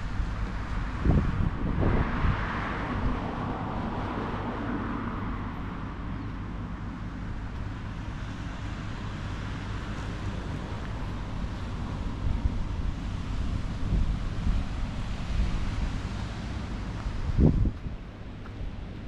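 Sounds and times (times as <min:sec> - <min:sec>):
wind buffeting microphone: 0:00.0 - 0:06.2, 0:07.3 - 0:19.0
steady rushing outdoor noise: 0:00.0 - 0:19.0.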